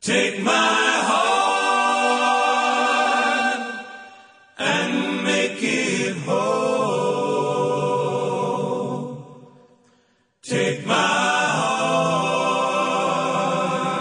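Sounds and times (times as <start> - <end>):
slow chant-like singing voices: 0.0 - 14.0.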